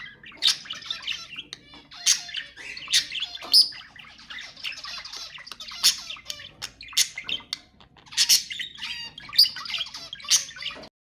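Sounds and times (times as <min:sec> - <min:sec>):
sharp bird chirps: 0:00.0 - 0:10.8
budgerigars chattering and warbling: 0:00.0 - 0:10.9.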